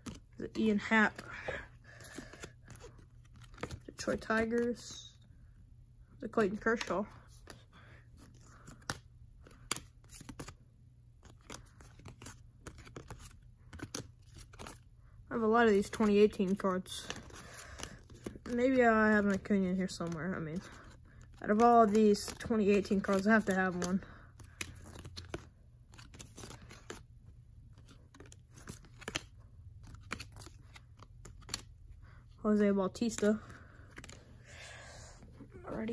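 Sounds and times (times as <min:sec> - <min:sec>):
cards being flipped by hand: 0:00.0 - 0:04.9, 0:06.3 - 0:14.9, 0:15.7 - 0:32.3, 0:32.9 - 0:34.4.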